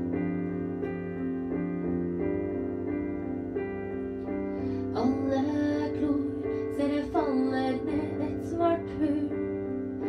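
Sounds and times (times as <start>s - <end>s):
electric keyboard sustained chords: 0.0s - 10.0s.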